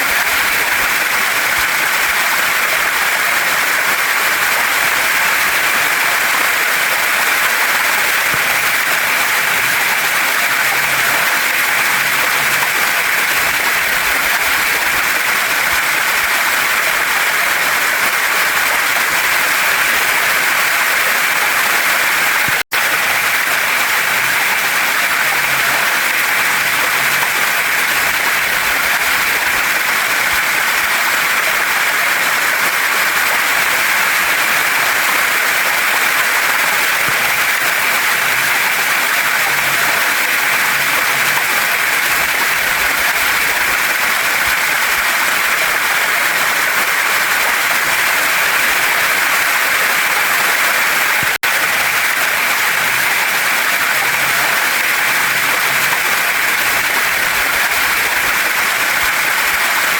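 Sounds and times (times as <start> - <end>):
waterfall and stream over rocks: 0.0 - 59.9.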